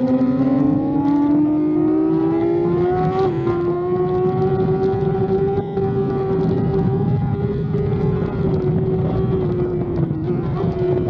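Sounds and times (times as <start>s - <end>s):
racing motorcycle engine at high revs: 0.0s - 11.0s.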